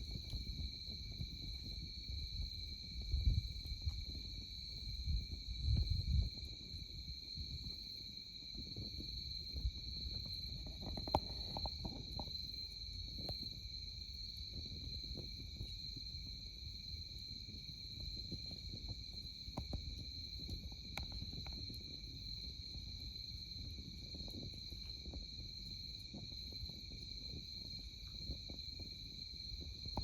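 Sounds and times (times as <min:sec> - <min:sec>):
campfire crackling and popping: 0:00.0 - 0:30.0
crickets chirring: 0:00.0 - 0:30.0.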